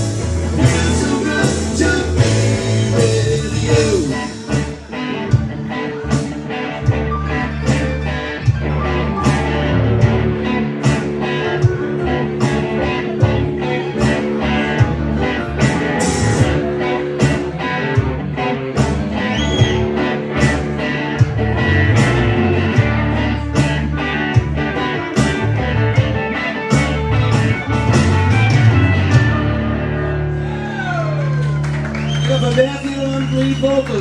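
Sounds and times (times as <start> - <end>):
steady drum beat: 0.0 - 29.5
country-rock band playing: 0.0 - 34.0
guitars: 0.0 - 34.0.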